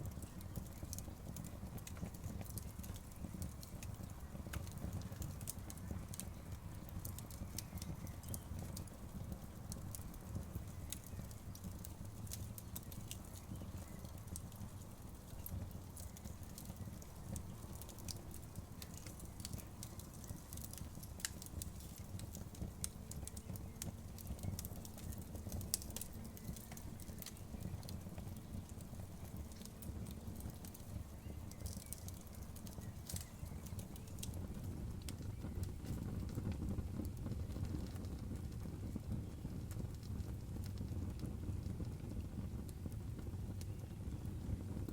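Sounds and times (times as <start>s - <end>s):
bonfire crackling and popping: 0.0s - 44.9s.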